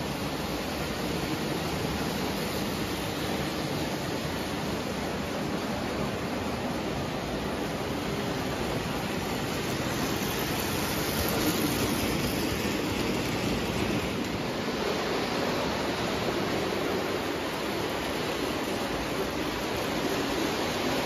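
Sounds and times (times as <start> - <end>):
toy trains rolling on track: 0.0 - 21.0.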